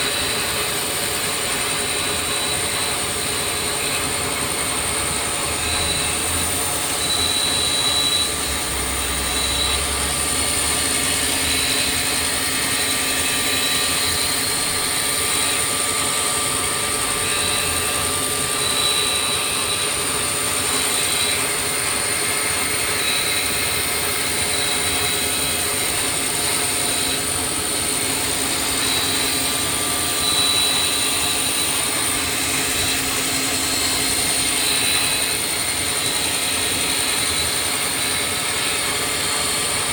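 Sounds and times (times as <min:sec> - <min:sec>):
high machine tones: 0:00.0 - 0:39.9
machine mechanical whine: 0:00.0 - 0:39.9.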